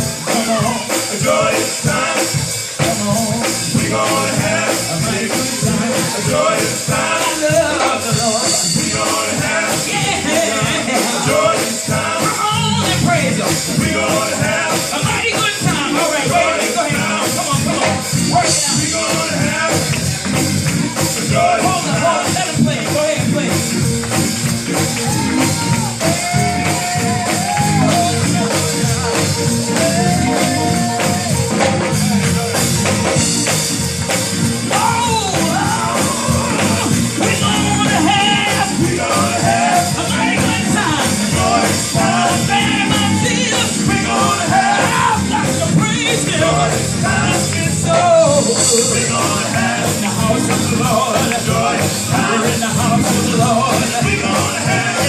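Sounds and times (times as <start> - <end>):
live gospel band playing: 0.0 - 55.0.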